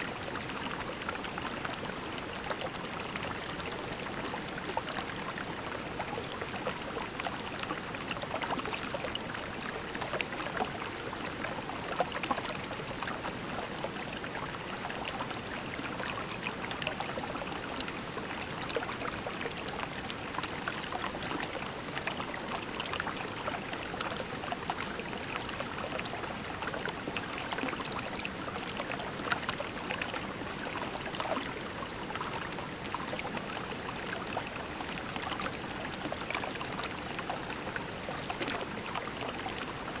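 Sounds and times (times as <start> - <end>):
creek water babbling over pebbles: 0.0 - 40.0.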